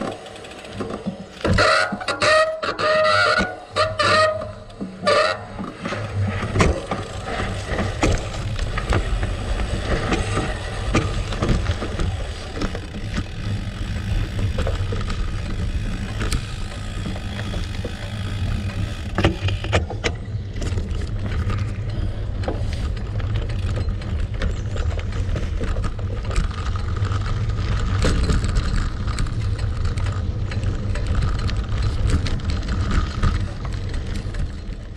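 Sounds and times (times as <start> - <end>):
bike clicks and rattles: 0.0 - 34.9
bike tyres crunching on gravel: 0.0 - 34.9.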